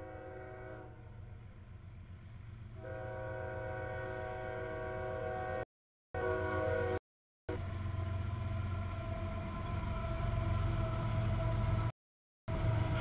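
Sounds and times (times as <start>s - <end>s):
diesel locomotive engine rumble: 0.0s - 5.6s, 6.2s - 11.9s, 12.5s - 13.0s.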